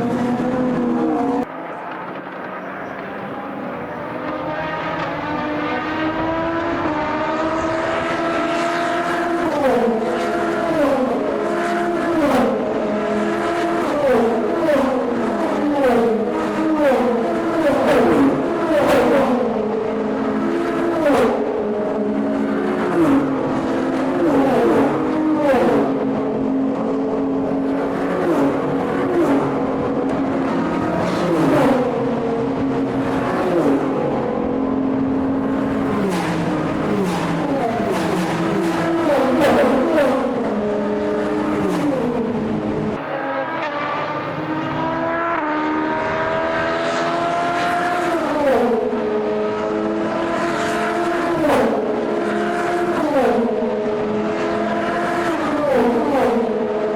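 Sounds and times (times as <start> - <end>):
race cars passing at speed: 0.0 - 56.9.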